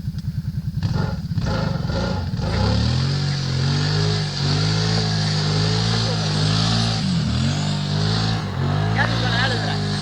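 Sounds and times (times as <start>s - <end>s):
atv engine idling and revving: 0.0s - 10.0s.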